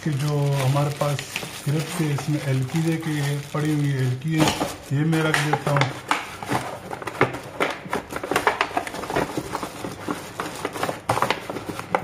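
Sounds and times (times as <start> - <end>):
plastic and paper crinkling: 0.0 - 12.0.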